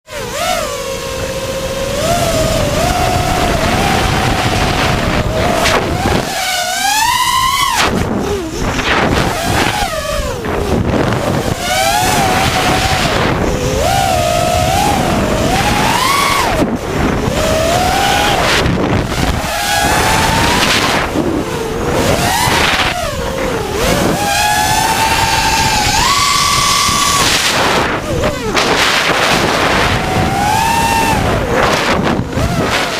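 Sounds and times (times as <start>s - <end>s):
small engine revving: 0.1s - 32.9s
wind buffeting microphone: 0.2s - 32.9s.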